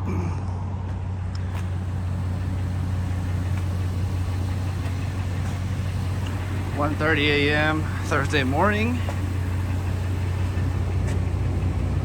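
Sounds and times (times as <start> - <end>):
car engine and road drone: 0.0 - 12.0
road noise hiss: 0.0 - 12.0.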